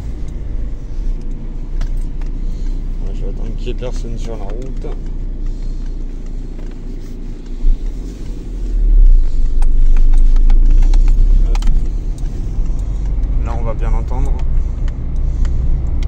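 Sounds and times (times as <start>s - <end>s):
road and engine rumble in car: 0.0s - 16.0s
suspension knocking: 0.0s - 16.0s.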